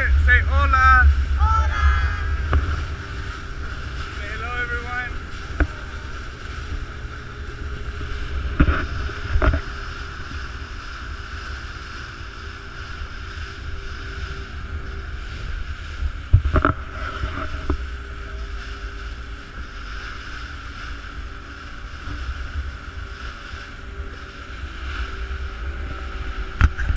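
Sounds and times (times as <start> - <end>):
boat engine drone: 0.0 - 26.9
wind on microphone: 0.0 - 26.9.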